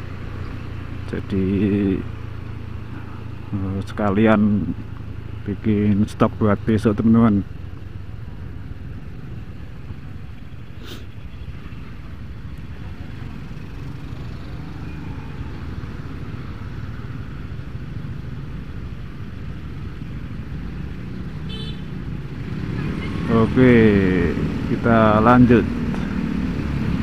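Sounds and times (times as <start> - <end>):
motorcycle engines idling: 0.0 - 26.3.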